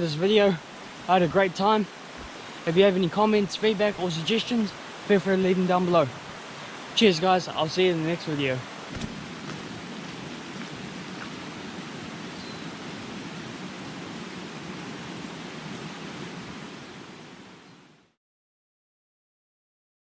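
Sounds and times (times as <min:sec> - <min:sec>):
steady outdoor noise: 0:00.0 - 0:18.2.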